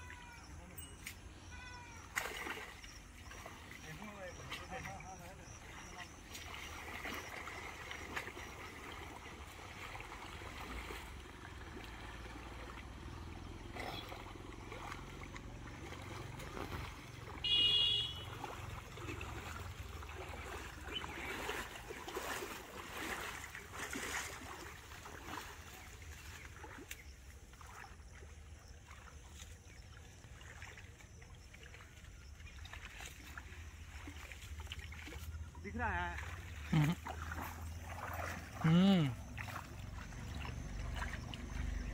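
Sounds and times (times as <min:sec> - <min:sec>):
pond water sloshing and splashing: 0:00.0 - 0:41.9.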